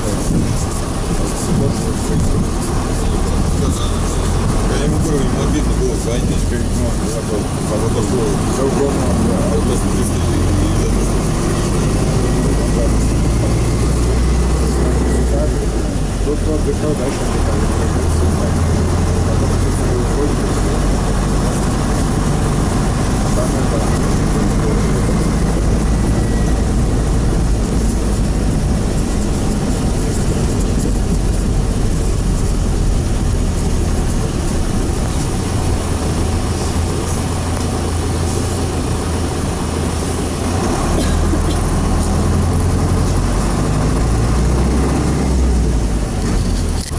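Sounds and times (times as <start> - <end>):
bus engine and road noise: 0.0 - 46.9.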